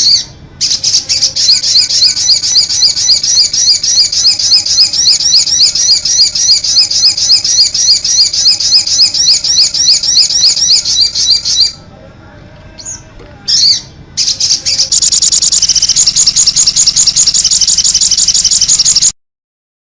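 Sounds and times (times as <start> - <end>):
bird high chirps: 0.0 - 11.8, 12.8 - 19.2.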